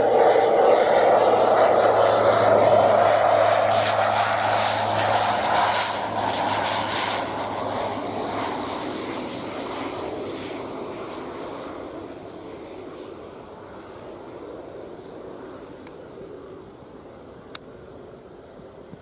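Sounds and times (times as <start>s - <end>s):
turboprop aircraft passing by: 0.0s - 19.0s.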